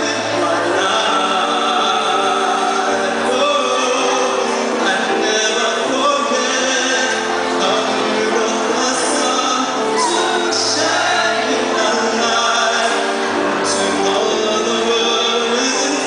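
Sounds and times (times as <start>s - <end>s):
man singing into microphone: 0.0s - 16.0s
musical accompaniment: 0.0s - 16.0s.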